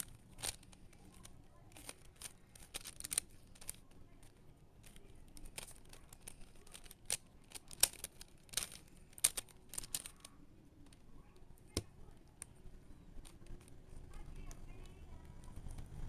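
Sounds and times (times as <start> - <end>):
puzzle cube clicking: 0.0 - 16.0.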